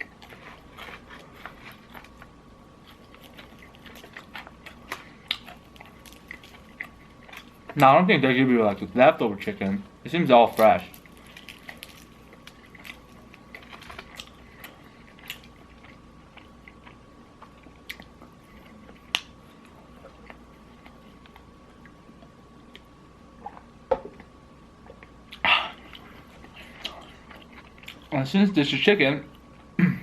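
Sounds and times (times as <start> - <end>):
person chewing crunchy food: 0.0 - 7.9, 10.4 - 28.2.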